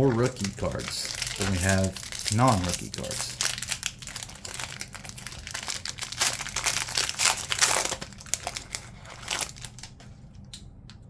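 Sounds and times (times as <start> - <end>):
wrapper crinkling: 0.0 - 10.1.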